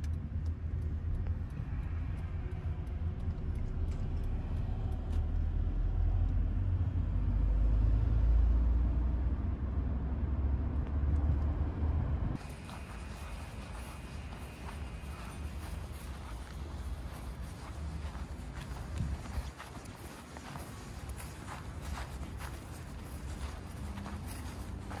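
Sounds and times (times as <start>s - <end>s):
car interior rumble: 0.0s - 25.0s
outdoor ambience: 0.0s - 25.0s.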